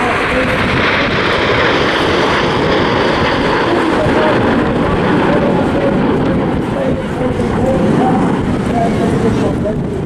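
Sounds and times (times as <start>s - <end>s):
jets flying overhead: 0.0s - 10.0s.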